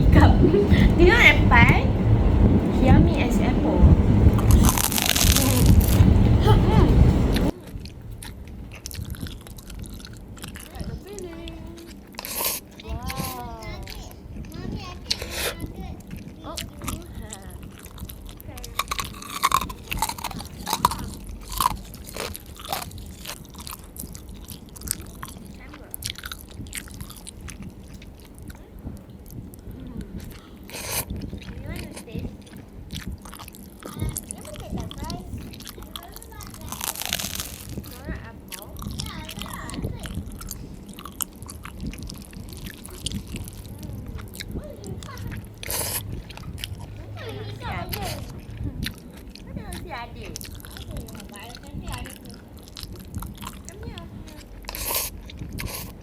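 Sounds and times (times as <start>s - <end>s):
people biting and chewing food: 4.2s - 56.0s
wet mouth clicks: 7.3s - 14.5s, 15.1s - 56.0s.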